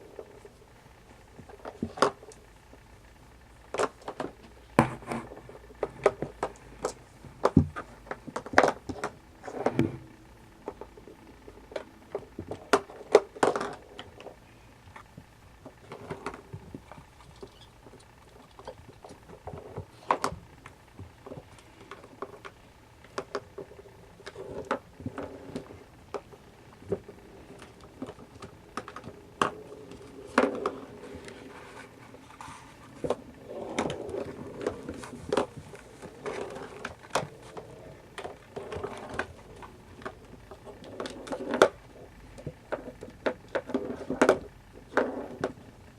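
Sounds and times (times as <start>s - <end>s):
kittens tapping and scrabbling: 0.0s - 2.8s, 3.7s - 45.7s.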